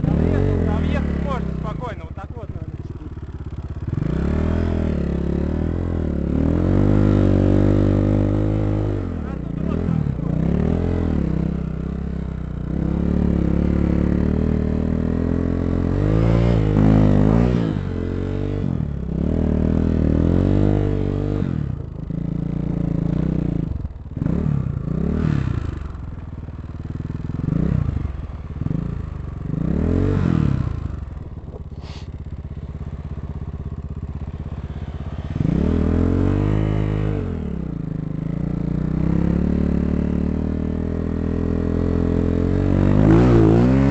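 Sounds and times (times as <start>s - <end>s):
dirt bike engine revving: 0.0s - 26.0s, 27.2s - 43.9s.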